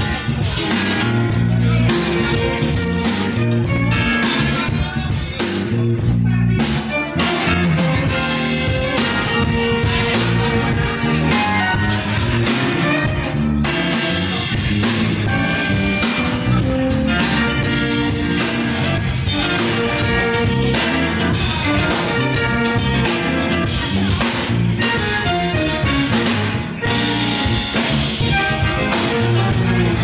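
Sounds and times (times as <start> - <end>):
drums: 0.0 - 30.0
electric guitar: 0.0 - 30.0
keyboard: 0.0 - 30.0.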